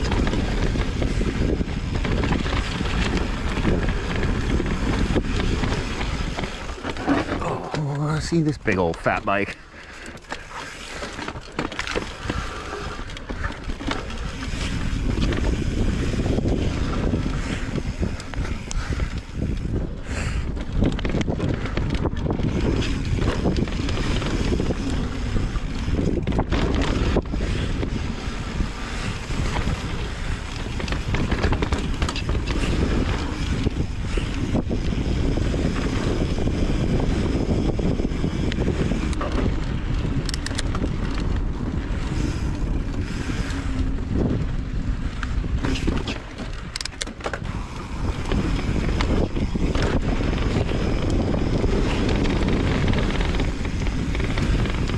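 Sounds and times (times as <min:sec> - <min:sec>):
bike knocking and rattling: 0:00.0 - 0:54.9
bike tyres rolling on dirt: 0:00.0 - 0:54.9
wind rushing over microphone: 0:00.0 - 0:54.9.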